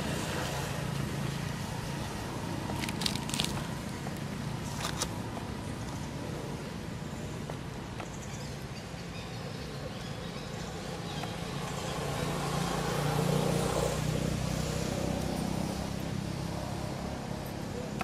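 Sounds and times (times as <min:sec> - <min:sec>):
motor vehicle passing by: 0:00.0 - 0:06.7, 0:09.5 - 0:18.0.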